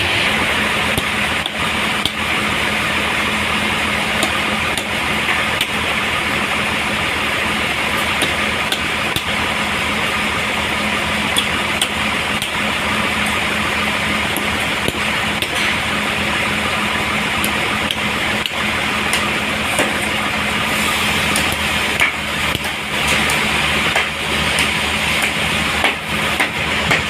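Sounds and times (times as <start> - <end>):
sawmill motor hum: 0.0 - 27.0.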